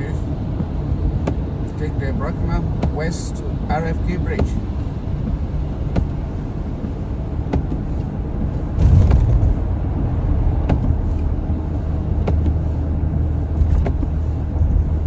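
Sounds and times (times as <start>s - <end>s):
car road noise rumble: 0.0s - 15.0s.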